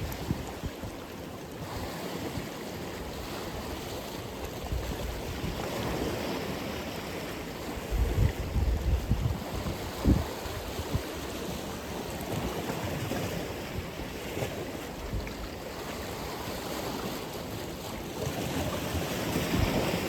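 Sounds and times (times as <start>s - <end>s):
waves breaking: 0.0s - 20.0s.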